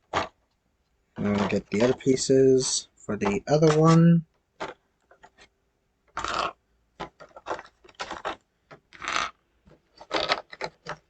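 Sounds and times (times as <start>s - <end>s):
plastic parts clicking and clacking: 1.2s - 5.5s, 6.1s - 11.0s.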